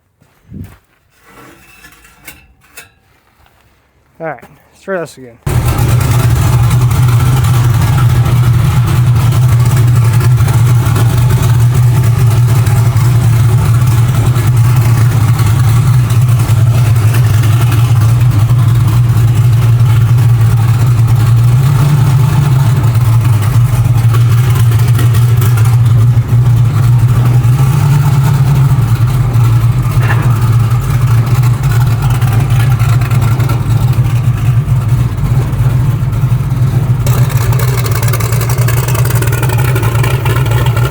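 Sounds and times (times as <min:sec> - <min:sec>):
race car engine idling roughly: 0:05.5 - 0:40.9.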